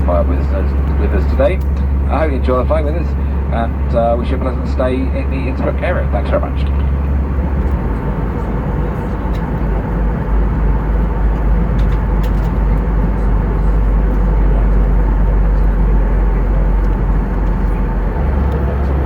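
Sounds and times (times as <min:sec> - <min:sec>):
airflow and engine noise: 0:00.0 - 0:19.0
airplane cabin rumble: 0:00.0 - 0:19.0.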